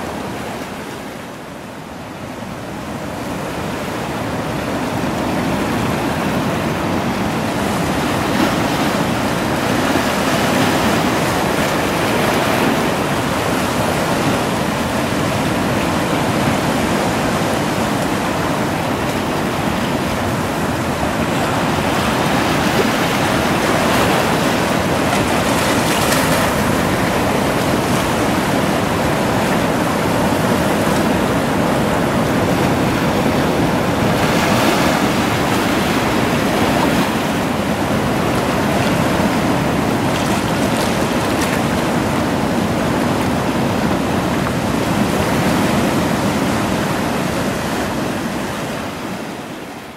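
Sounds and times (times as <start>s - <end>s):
surf washing against rocks: 0.0s - 49.9s.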